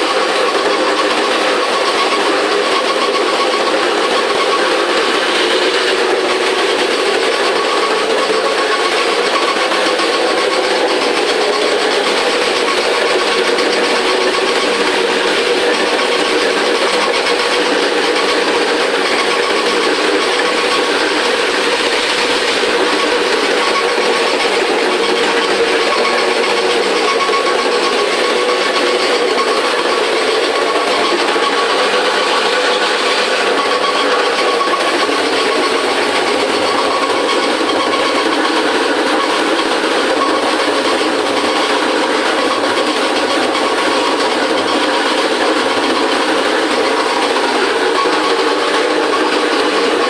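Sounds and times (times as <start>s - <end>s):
wet grinder whirring: 0.0s - 50.0s.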